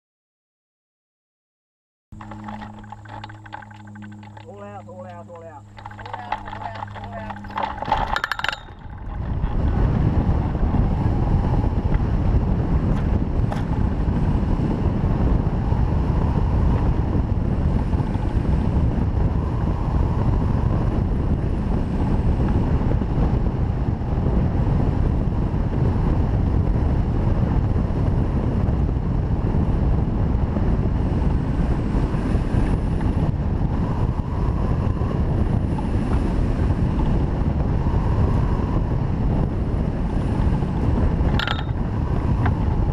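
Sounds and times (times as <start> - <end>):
wind rushing over microphone: 2.2 - 42.9.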